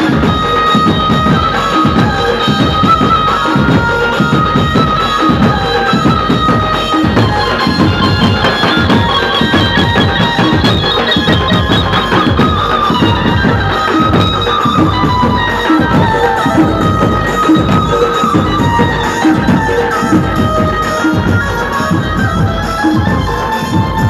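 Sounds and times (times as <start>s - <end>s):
heavy drumming: 0.0s - 24.0s
high melody over loudspeaker: 0.0s - 24.0s.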